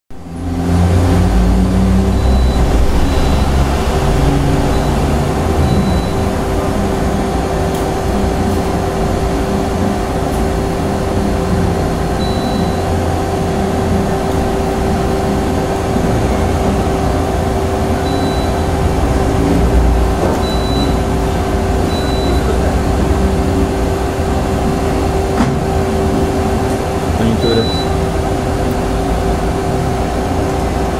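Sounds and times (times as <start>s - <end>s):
lathe machine hum and whine: 0.2s - 30.9s.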